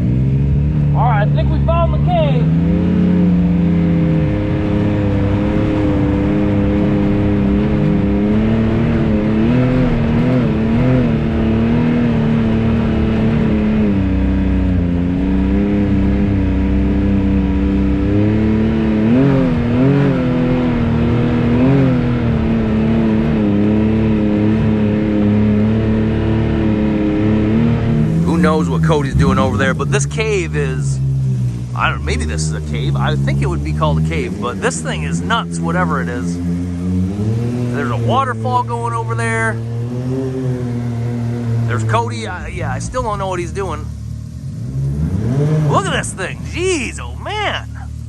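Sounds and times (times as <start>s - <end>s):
engine running: 0.0s - 48.0s.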